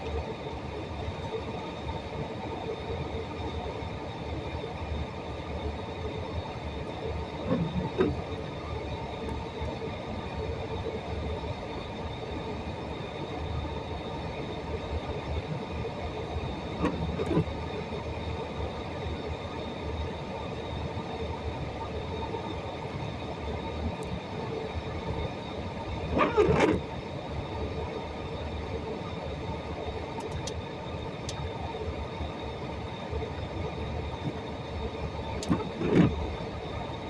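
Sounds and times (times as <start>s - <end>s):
steady rumbling background noise: 0.0s - 37.0s.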